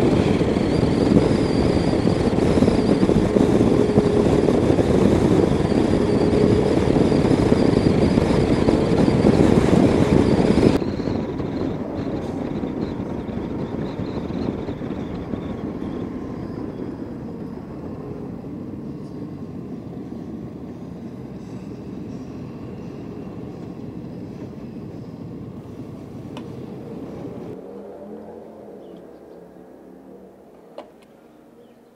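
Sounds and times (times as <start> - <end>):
wind noise: 0.0 - 27.6.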